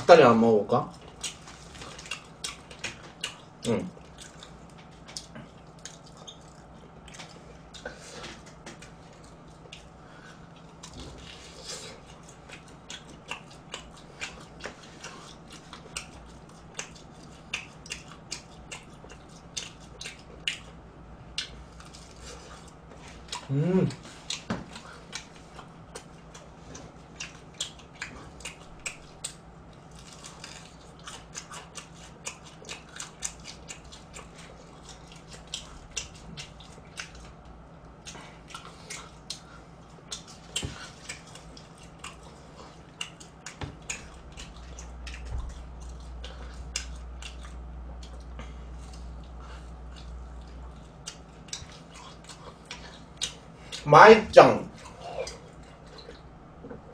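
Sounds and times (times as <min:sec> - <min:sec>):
low steady hum: 0:00.0 - 0:56.9
chewing: 0:00.8 - 0:53.9, 0:54.7 - 0:56.9
crunching fried chicken: 0:00.8 - 0:56.3.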